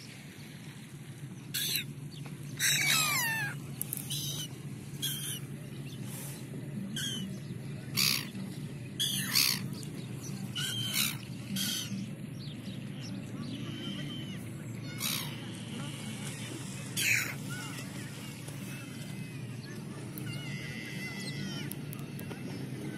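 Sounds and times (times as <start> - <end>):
gulls calling: 0.0 - 22.9.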